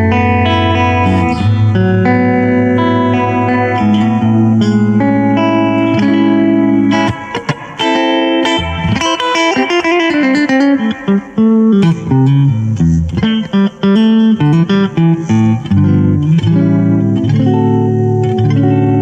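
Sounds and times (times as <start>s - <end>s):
electric guitar melody: 0.0s - 19.0s.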